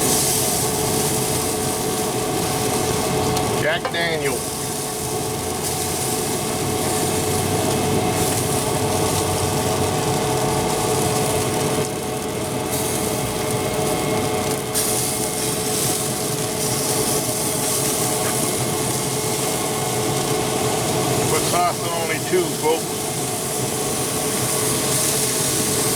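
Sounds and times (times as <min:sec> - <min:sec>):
steady machine hum: 0:00.0 - 0:25.9.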